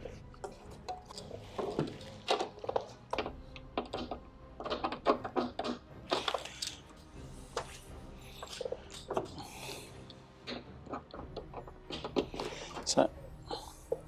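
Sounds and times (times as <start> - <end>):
tools clicking and knocking: 0.4 - 14.0.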